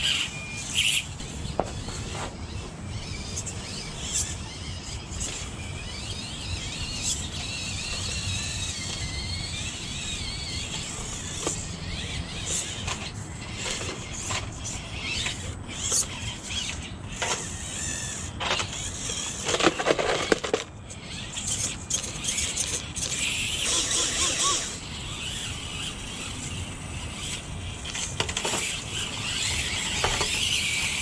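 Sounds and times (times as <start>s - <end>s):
small electric motors whining: 0.0s - 31.0s
toy car clattering over: 0.0s - 31.0s.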